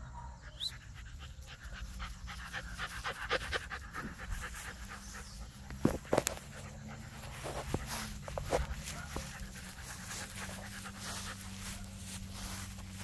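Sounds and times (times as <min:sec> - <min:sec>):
puppy panting quickly: 0:00.4 - 0:13.0.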